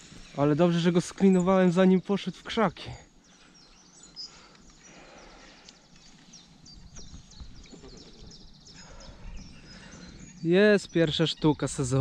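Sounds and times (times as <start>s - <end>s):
faint outdoor background: 0.0s - 12.0s
small birds chirping and trilling: 0.0s - 12.0s.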